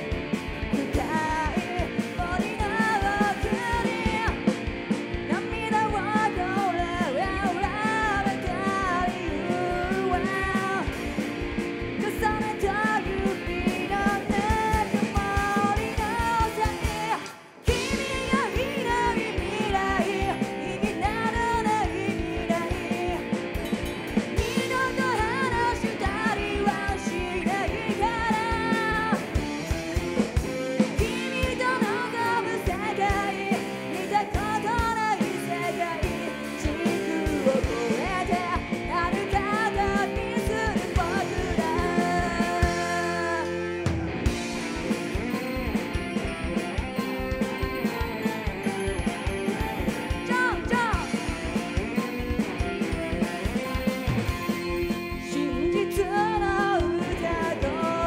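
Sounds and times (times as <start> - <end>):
woman singing: 0.0 - 43.9, 45.1 - 58.0
drum kit: 0.0 - 58.0
electric guitar: 0.0 - 58.0
keyboard: 0.0 - 58.0.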